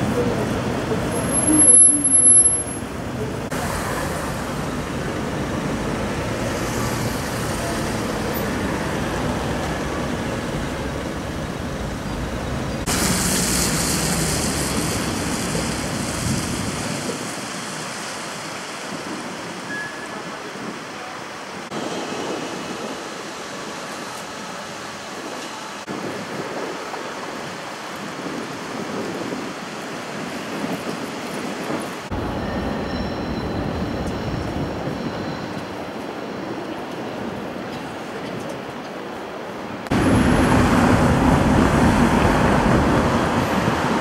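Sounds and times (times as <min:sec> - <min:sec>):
street traffic hiss and rumble: 0:00.0 - 0:44.0.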